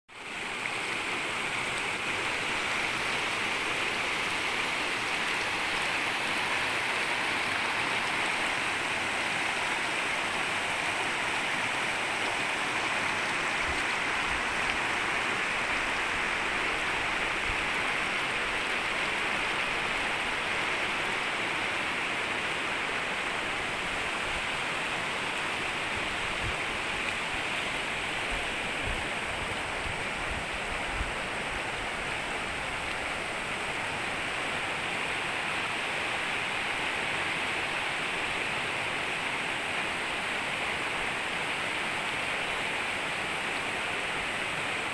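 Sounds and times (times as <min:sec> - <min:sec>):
stream rushing over stones: 0:00.1 - 0:44.9.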